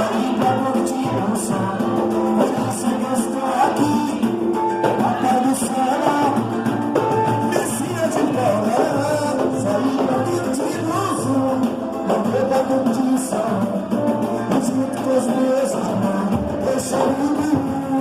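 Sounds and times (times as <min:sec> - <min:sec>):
live band music: 0:00.0 - 0:18.0
person singing: 0:00.0 - 0:18.0.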